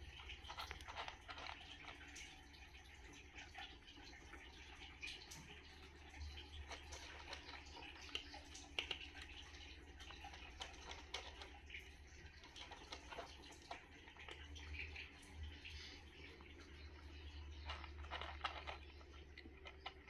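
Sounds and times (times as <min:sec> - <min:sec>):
cat crunching dry kibble: 0:00.0 - 0:02.8, 0:06.4 - 0:20.0.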